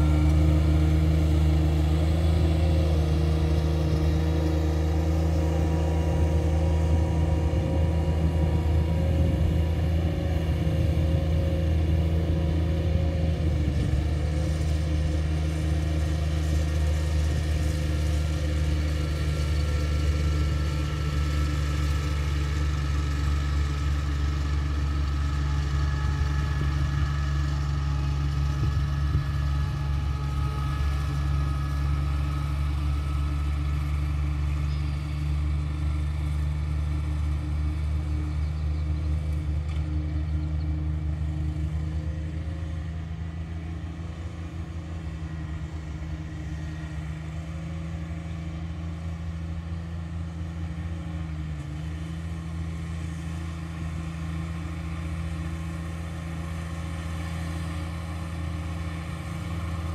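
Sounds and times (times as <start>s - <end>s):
riding lawn mower engine: 0.0s - 59.9s.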